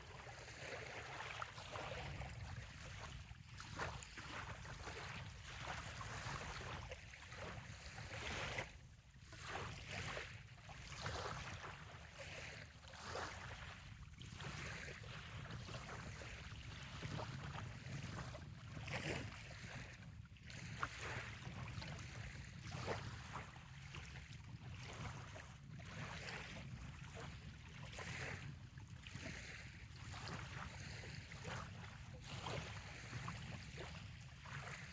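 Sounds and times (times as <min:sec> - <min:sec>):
waves lapping on sandy shore: 0:00.0 - 0:34.9.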